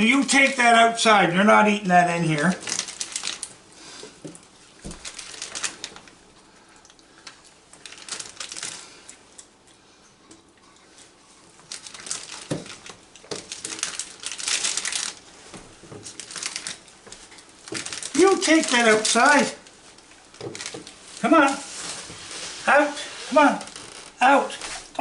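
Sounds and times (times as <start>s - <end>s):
raccoons scrabbling and rustling: 2.5s - 25.0s.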